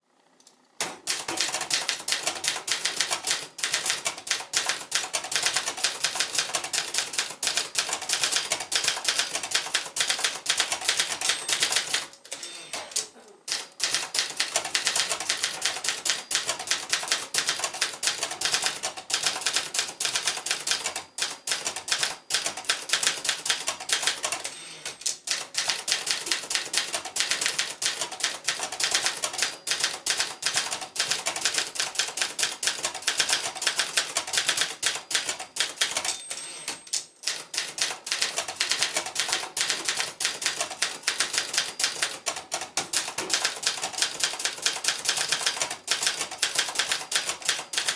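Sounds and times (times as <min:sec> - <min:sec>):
manual typewriter keystrokes: 0:00.8 - 0:47.9.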